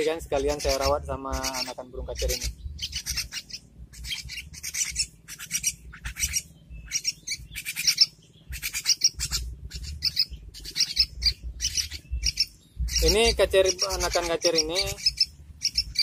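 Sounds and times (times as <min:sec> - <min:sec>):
bird chicks begging chirps: 0:00.0 - 0:16.0.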